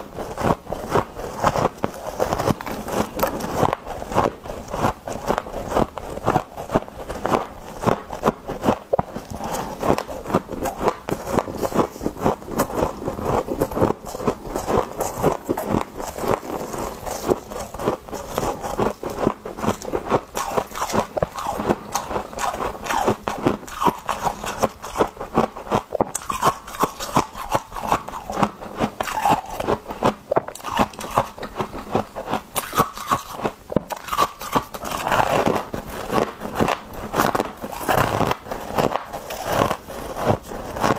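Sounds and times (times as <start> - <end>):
person chewing ice crunches: 0.0 - 40.9.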